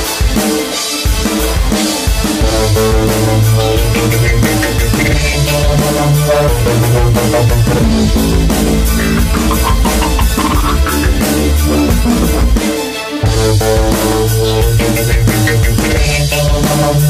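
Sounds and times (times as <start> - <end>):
music with drums and heavy bass: 0.0 - 17.0.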